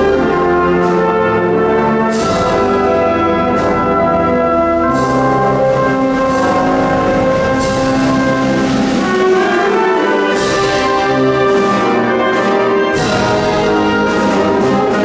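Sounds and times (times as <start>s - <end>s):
wind band playing a march: 0.0s - 15.0s.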